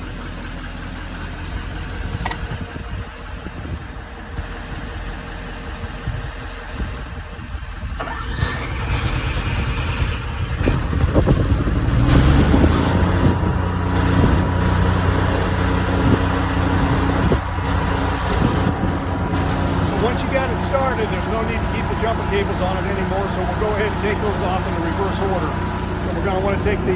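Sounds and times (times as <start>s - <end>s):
generator cranking and running: 0.0s - 26.9s
truck engine idling: 0.0s - 26.9s.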